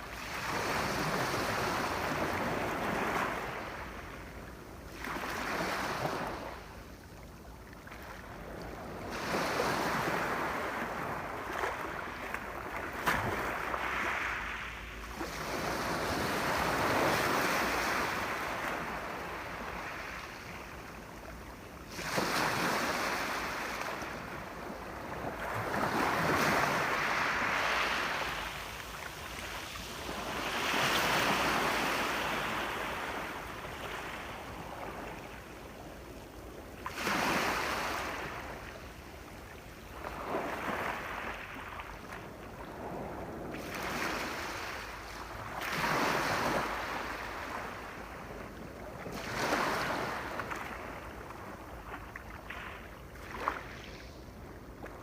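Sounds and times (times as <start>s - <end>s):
sea waves breaking on shore: 7.8s - 55.0s.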